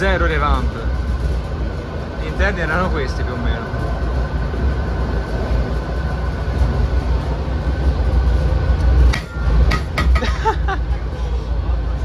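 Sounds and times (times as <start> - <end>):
faint steady whine: 0.0 - 12.0
railcar diesel engine and wheels: 0.0 - 12.0.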